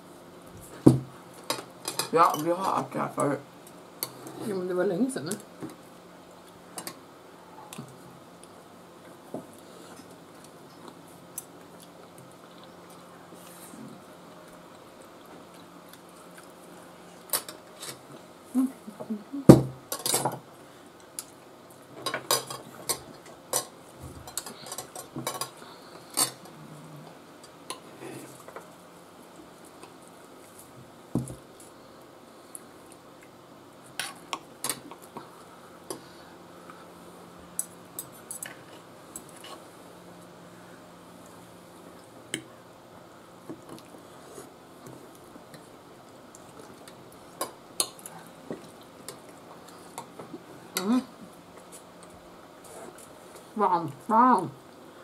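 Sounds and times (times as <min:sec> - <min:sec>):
soft chewing: 0:05.4 - 0:07.0, 0:07.6 - 0:19.4, 0:20.6 - 0:54.0.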